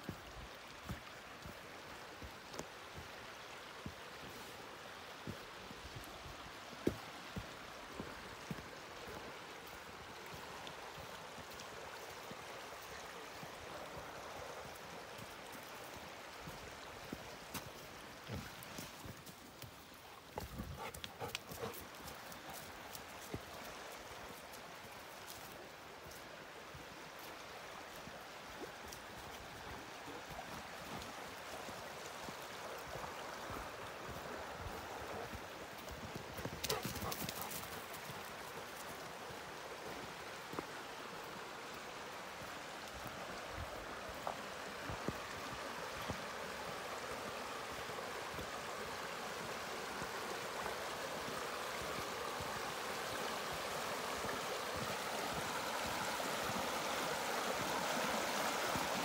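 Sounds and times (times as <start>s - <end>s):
rippling creek: 0.0s - 59.0s.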